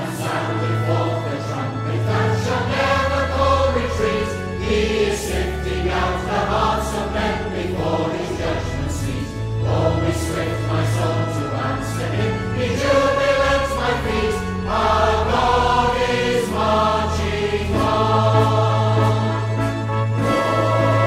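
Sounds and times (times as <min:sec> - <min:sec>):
choir singing slow chords: 0:00.0 - 0:21.0
instrumental backing: 0:00.0 - 0:21.0.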